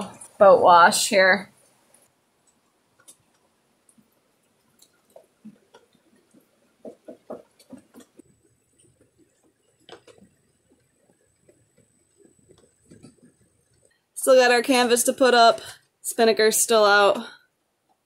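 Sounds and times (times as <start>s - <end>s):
rain dripping on deck and windows: 0.0s - 15.5s.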